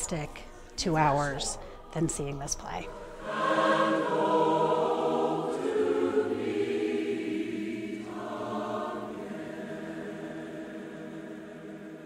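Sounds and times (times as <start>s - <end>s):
choir singing held chords: 0.0s - 12.0s.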